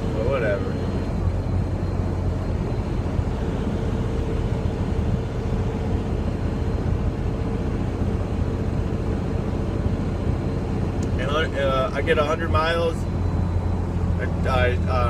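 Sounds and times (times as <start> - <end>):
faint steady whine: 0.0 - 15.0
road noise inside cab: 0.0 - 15.0
truck diesel engine drone: 0.0 - 15.0.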